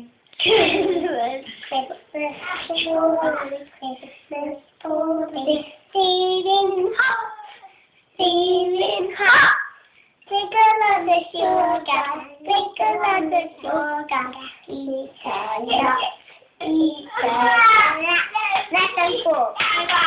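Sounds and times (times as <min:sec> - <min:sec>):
young children singing: 0:00.6 - 0:07.6, 0:08.2 - 0:20.0.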